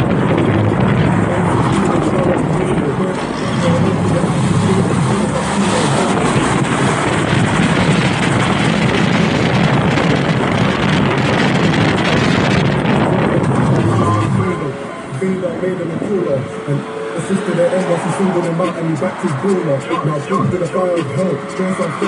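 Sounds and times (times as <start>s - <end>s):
vehicle road noise rumble: 0.0s - 22.0s.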